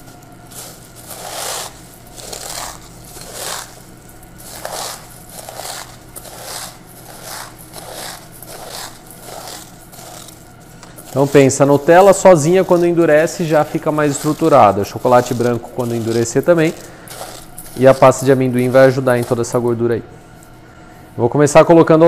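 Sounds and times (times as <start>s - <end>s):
corn flakes crunching: 0.0s - 20.6s.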